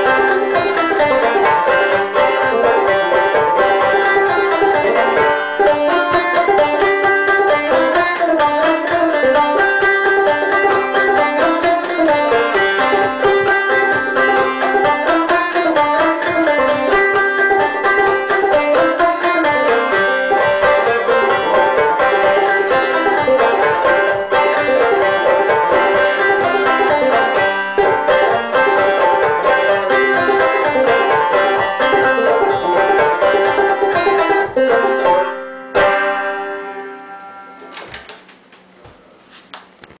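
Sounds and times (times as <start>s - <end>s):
banjo playing old-time tune: 0.0s - 37.6s.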